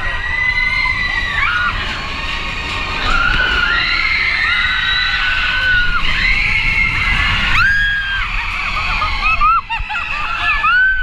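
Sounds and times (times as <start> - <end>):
steady rumble: 0.0 - 10.3
people screaming: 0.0 - 11.0.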